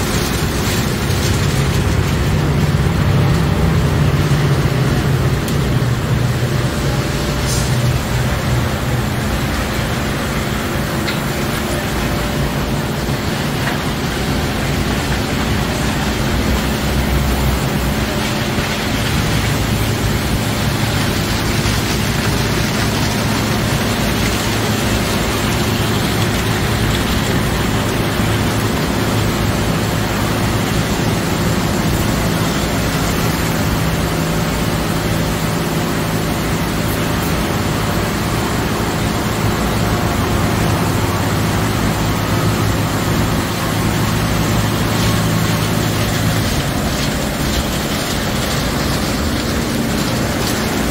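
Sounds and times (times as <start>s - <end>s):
low motor hum: 0.0s - 50.9s
spinning wash equipment: 0.0s - 50.9s
water spray rushing: 0.0s - 50.9s.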